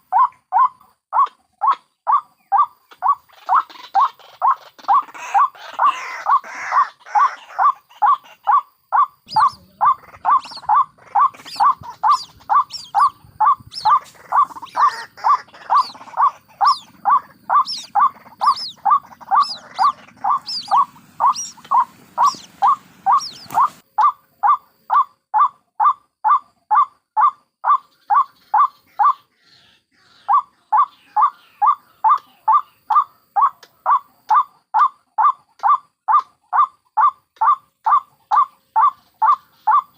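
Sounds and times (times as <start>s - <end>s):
waterhen calling: 0.0s - 29.4s, 30.0s - 39.9s
higher thinner bird calls: 0.0s - 39.9s.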